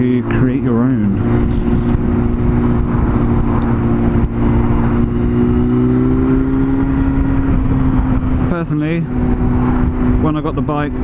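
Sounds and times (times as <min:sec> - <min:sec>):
heavy wind rush: 0:00.0 - 0:11.0
motorcycle engine cruising: 0:00.0 - 0:11.0.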